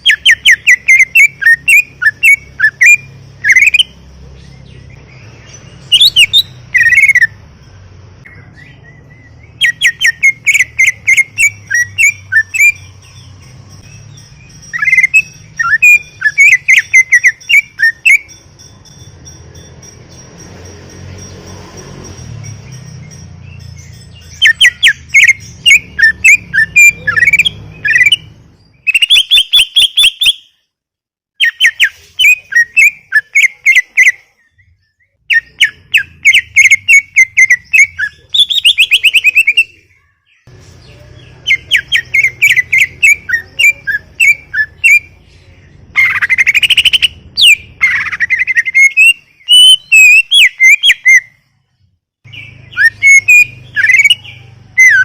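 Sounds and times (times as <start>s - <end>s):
bird chattering and whistling: 0.0s - 7.4s, 8.2s - 30.6s, 31.4s - 51.5s, 52.3s - 55.0s.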